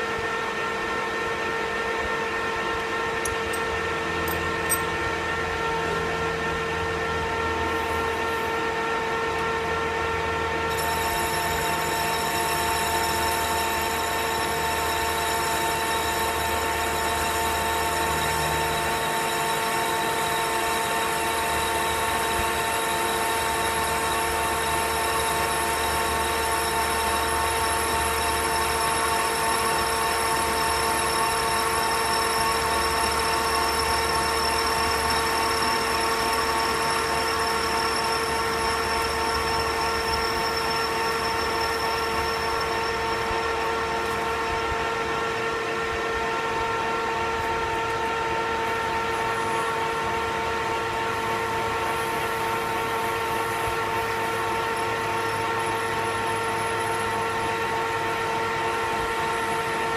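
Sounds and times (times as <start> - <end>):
metal lathe whining: 0.0 - 59.9.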